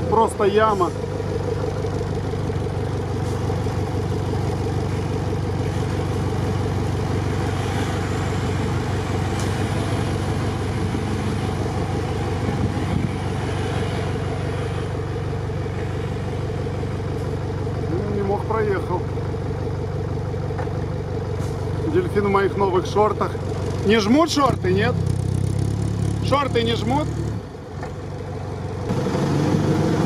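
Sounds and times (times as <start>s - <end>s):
vehicle engine idling: 0.0s - 29.2s.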